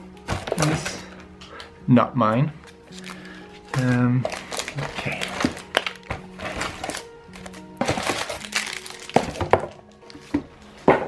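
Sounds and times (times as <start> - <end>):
background music: 0.0 - 11.0
packaging rustling: 0.2 - 1.4, 2.6 - 10.9.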